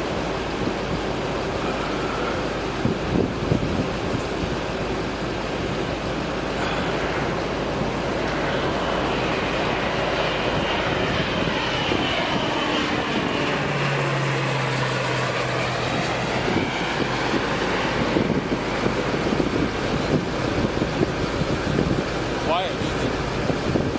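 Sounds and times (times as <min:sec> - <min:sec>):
propeller plane flyover: 0:00.0 - 0:23.9
wind buffeting microphone: 0:00.0 - 0:23.9.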